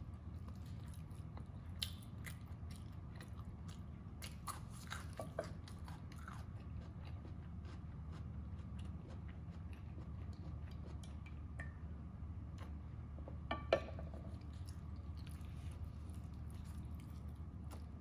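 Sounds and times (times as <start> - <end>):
steady low hum: 0.0 - 18.0
quiet chewing: 0.3 - 11.4, 14.3 - 18.0.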